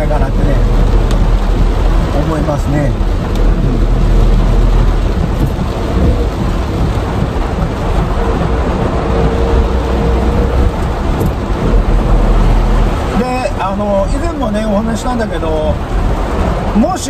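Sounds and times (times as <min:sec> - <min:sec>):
heavy rain pounding on car roof: 0:00.0 - 0:17.0
road noise: 0:00.0 - 0:17.0
storm wind rumble: 0:00.0 - 0:17.0.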